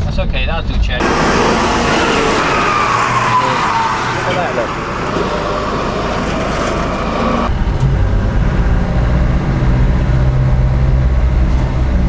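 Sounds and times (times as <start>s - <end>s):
vehicle engine drone: 1.0s - 12.0s.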